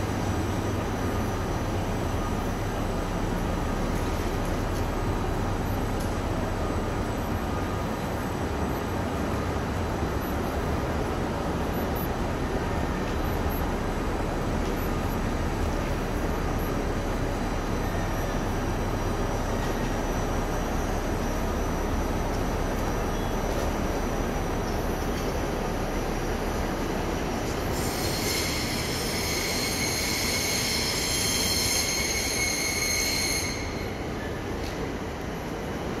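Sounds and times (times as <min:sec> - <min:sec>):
train standing with even rush: 0:00.0 - 0:36.0.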